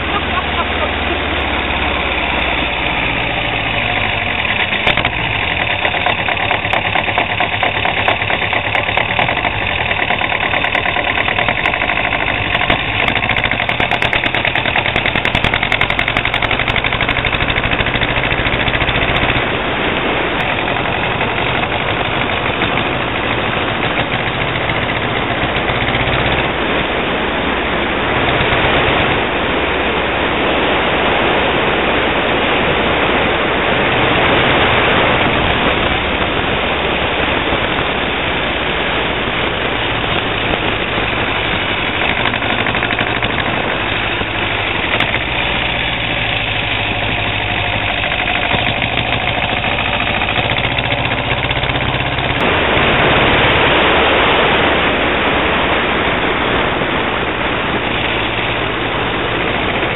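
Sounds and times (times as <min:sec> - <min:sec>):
car engine rattling: 0:00.0 - 0:59.9
road and wind noise: 0:00.0 - 0:59.9.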